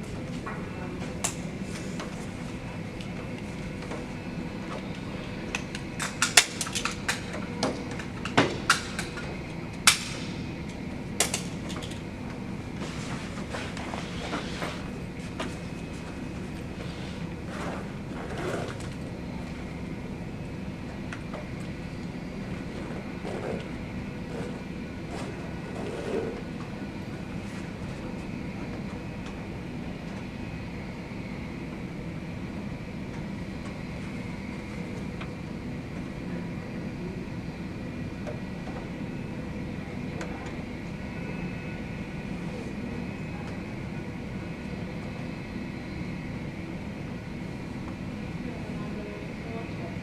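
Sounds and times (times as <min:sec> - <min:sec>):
jet engines humming: 0:00.0 - 0:50.0.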